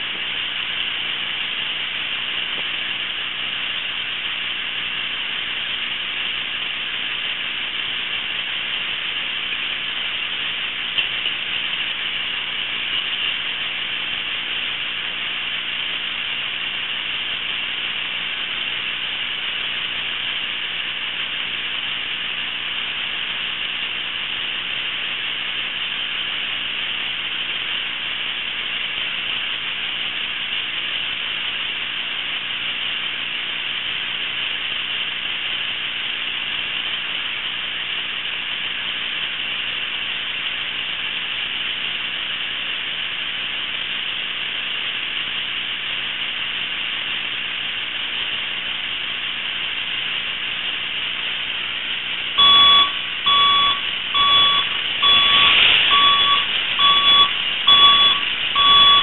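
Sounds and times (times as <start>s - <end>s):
steady electronic hiss: 0.0s - 59.0s.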